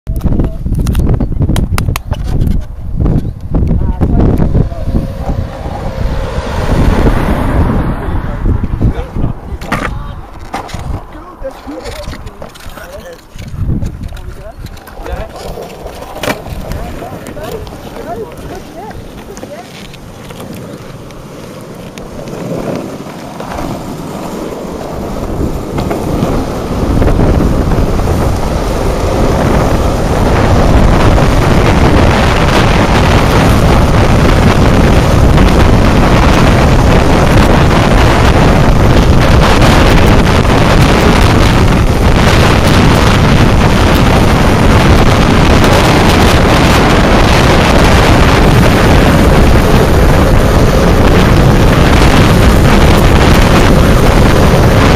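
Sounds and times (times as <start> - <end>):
wind rushing over microphone: 0.0 - 54.9
wheels rolling on asphalt: 0.1 - 54.9.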